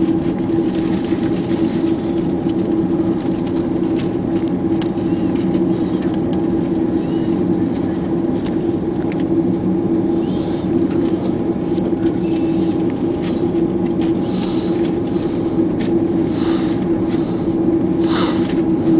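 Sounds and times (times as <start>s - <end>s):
airplane cabin engine rumble: 0.0s - 18.9s.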